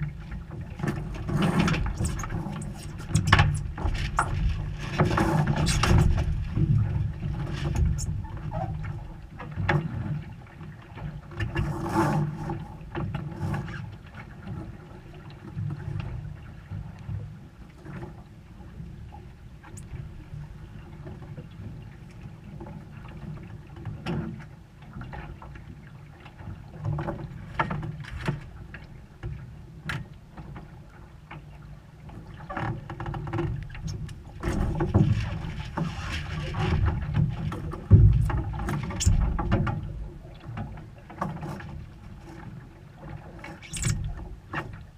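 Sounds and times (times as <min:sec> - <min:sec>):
wind and water rumble: 0:00.0 - 0:44.9.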